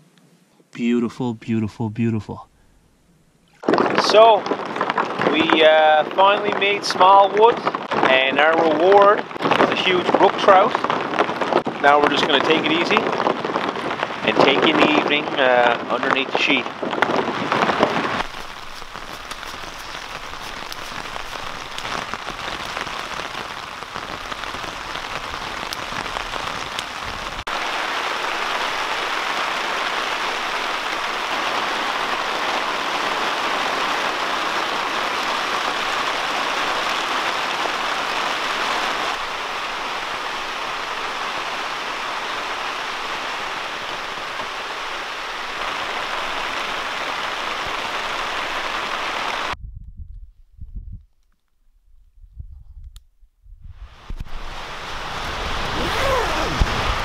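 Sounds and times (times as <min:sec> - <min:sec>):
wind: 0:00.0 - 0:57.0
rain hissing on a tarp: 0:03.6 - 0:49.6, 0:53.8 - 0:57.0.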